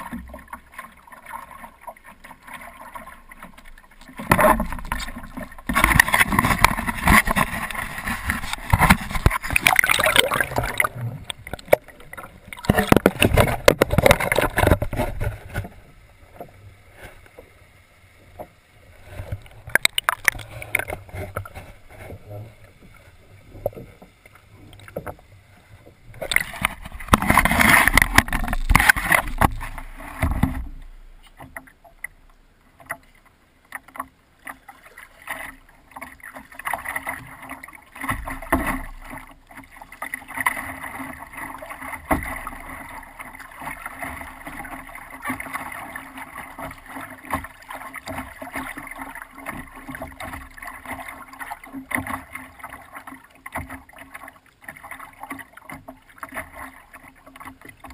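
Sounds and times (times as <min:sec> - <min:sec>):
water splashing against paddleboard: 0:00.0 - 0:17.6, 0:18.4 - 0:32.2, 0:32.8 - 0:57.9.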